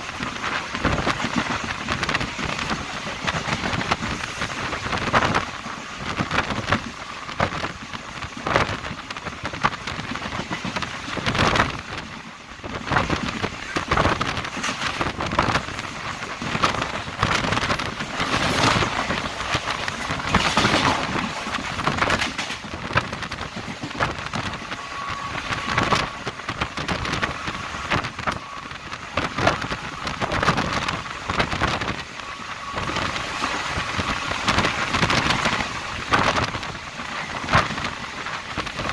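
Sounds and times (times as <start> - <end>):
train wheels rattling at speed: 0.0 - 38.9.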